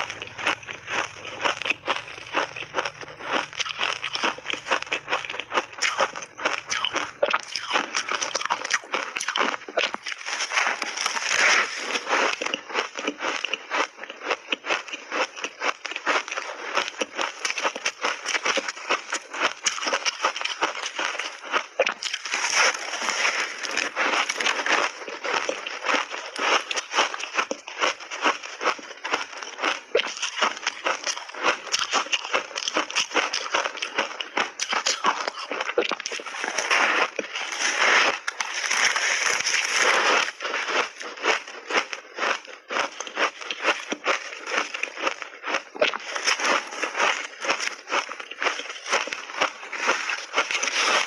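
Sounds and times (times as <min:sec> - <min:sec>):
ice being chewed crunching: 0:00.0 - 0:51.0.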